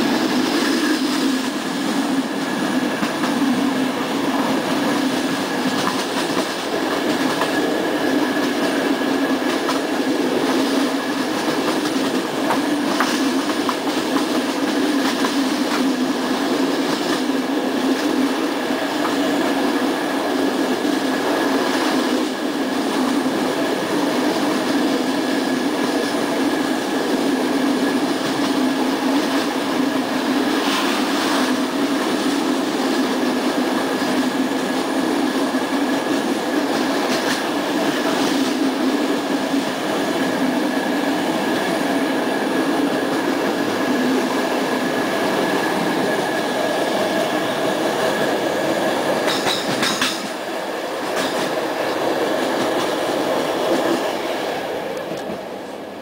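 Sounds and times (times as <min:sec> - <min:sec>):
rail joint clicks: 0:00.0 - 0:55.9
train wheels rumbling on rails: 0:00.0 - 0:56.0.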